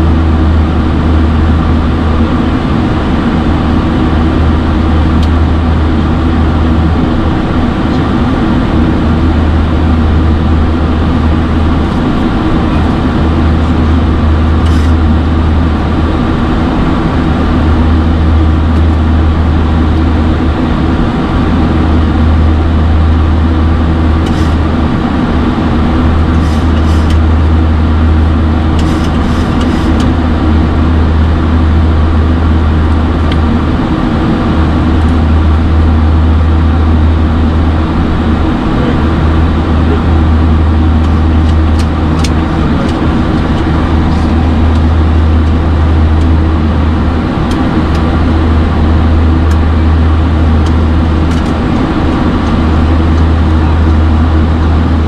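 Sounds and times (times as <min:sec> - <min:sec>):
aircraft engine and airflow drone: 0:00.0 - 0:55.0.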